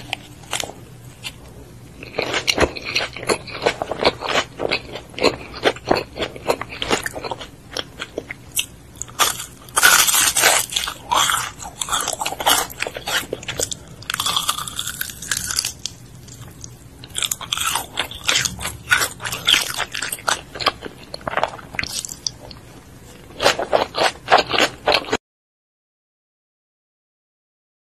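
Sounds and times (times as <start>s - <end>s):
crunchy chewing: 0.0s - 25.2s.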